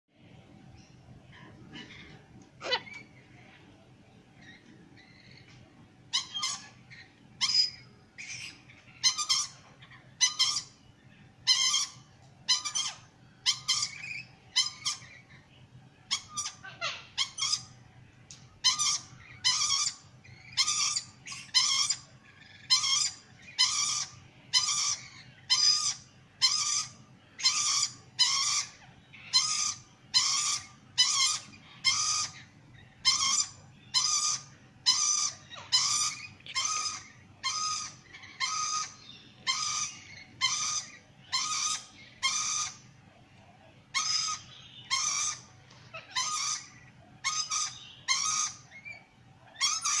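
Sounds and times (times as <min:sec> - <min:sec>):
cockatoo screeching: 0:01.7 - 0:03.1, 0:06.1 - 0:10.8, 0:11.5 - 0:15.2, 0:16.1 - 0:17.8, 0:18.6 - 0:42.9, 0:43.9 - 0:50.0.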